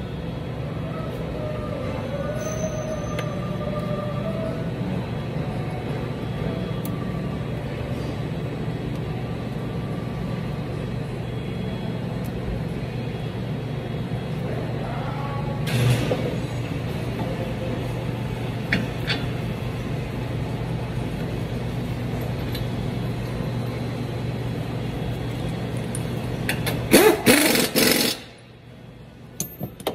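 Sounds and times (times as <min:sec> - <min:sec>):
low machine hum: 0:00.0 - 0:29.9.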